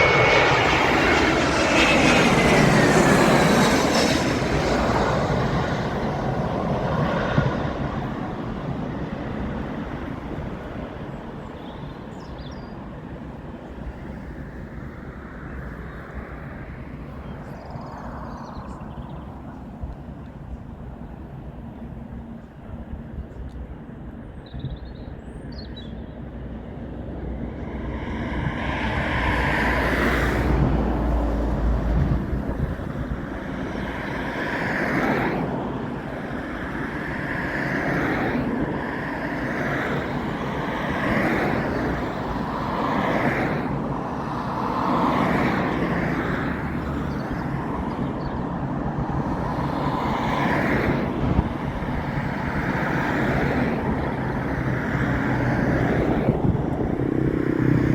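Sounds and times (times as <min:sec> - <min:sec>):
airliner jet engines passing overhead: 0:00.0 - 0:57.9.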